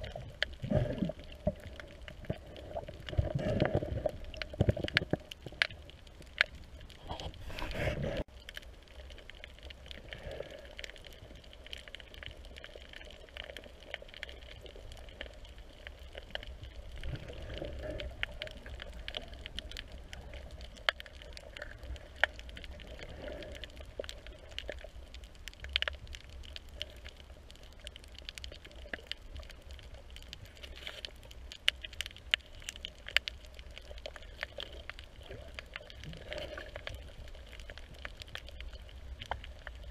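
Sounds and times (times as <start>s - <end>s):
sharp clicks and crackles: 0.0s - 39.9s
underwater rumble of moving water: 0.0s - 39.9s.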